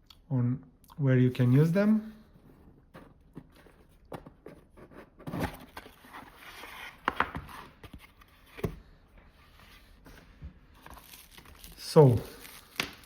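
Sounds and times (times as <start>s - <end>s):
cardboard rustling: 1.4s - 13.0s.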